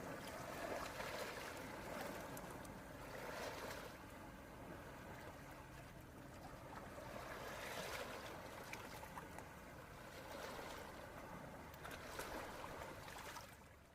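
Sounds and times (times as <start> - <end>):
small waves lapping at shore: 0.0 - 13.9.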